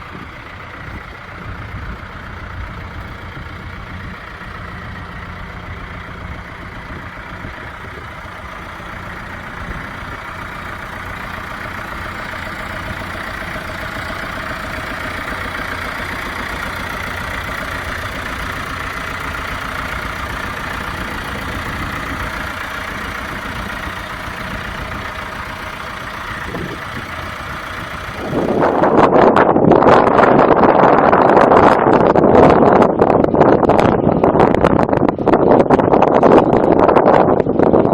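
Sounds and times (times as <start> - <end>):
tractor diesel engine idling: 0.0 - 37.9
wind noise on microphone: 0.0 - 37.9.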